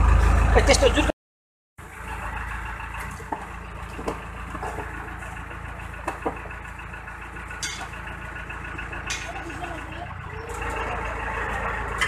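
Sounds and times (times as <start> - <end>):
heavy vehicle engine idling: 0.0 - 1.1, 1.8 - 12.0.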